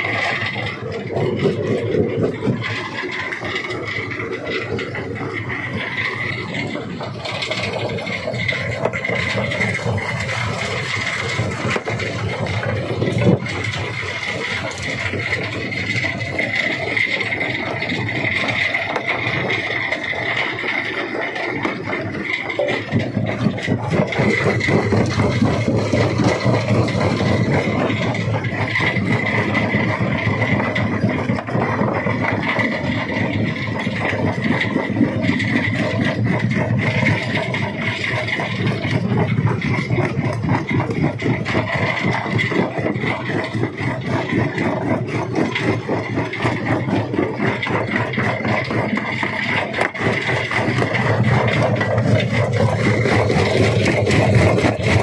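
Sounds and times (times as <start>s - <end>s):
rock crusher grinding stone: 0.0s - 55.0s.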